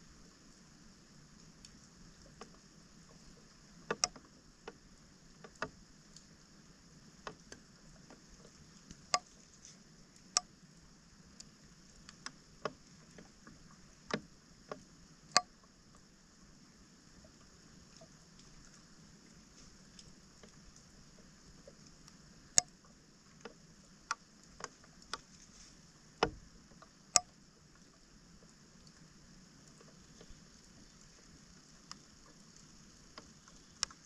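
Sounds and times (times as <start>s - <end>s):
faint steady hiss: 0.0s - 34.0s.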